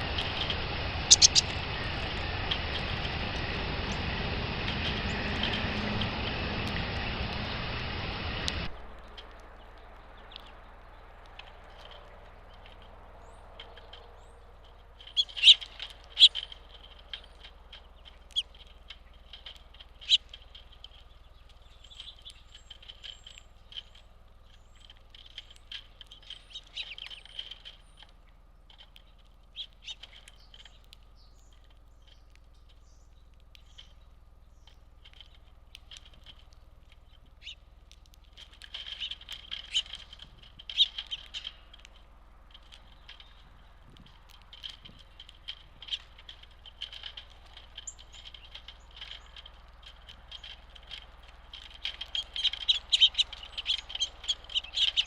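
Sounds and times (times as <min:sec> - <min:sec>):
faint low hum: 0:00.0 - 0:55.0
small birds chirping: 0:00.0 - 0:55.0.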